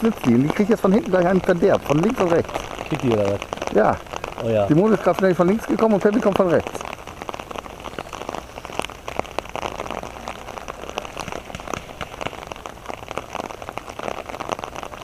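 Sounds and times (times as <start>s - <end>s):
raindrops ticking on a surface: 0.0s - 15.0s
steady rain: 0.0s - 15.0s.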